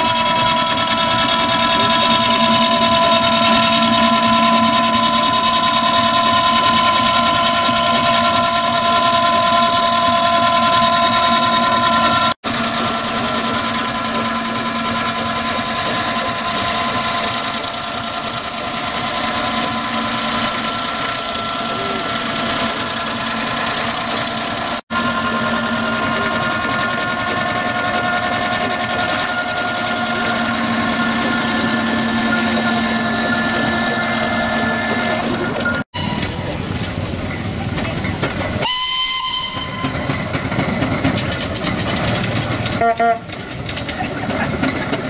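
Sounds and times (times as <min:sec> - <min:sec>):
steam traction engine running: 0:00.0 - 0:45.0.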